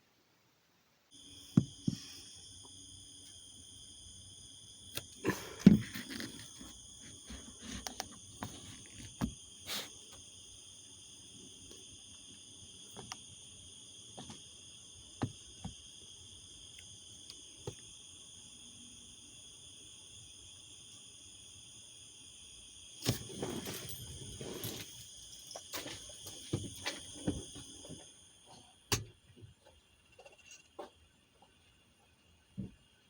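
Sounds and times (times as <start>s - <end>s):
high-pitched insect chorus: 1.1s - 28.8s.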